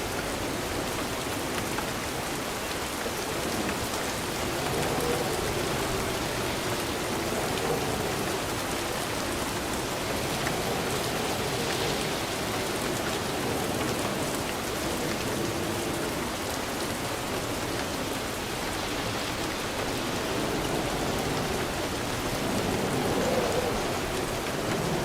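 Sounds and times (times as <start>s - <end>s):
heavy rainfall: 0.0s - 25.0s.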